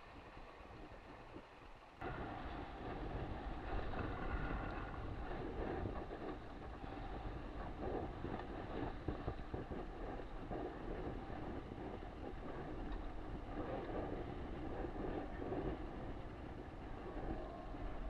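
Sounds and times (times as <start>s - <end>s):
water rushing past a hull: 0.0s - 18.0s
wind buffeting the microphone: 0.0s - 18.0s.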